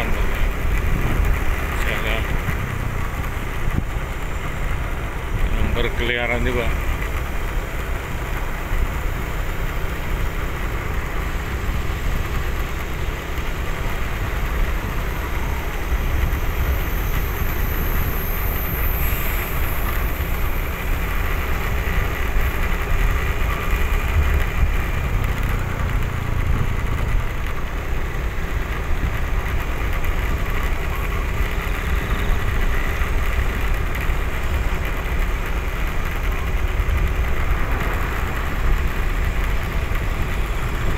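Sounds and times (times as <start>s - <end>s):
vehicle rumbling along a road: 0.0s - 40.9s.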